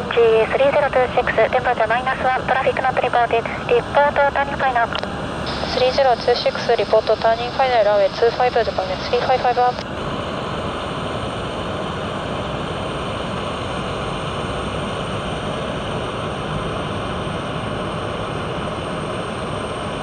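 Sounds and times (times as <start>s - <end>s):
faint high whine: 0.0s - 20.0s
jet engines rushing: 0.0s - 20.0s.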